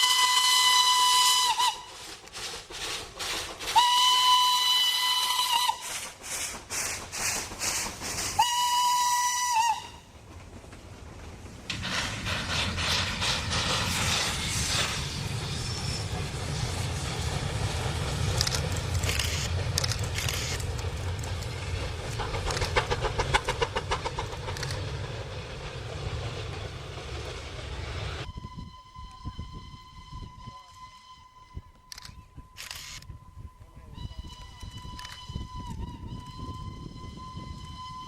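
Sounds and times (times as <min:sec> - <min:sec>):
steam locomotive passing: 0:00.0 - 0:38.0.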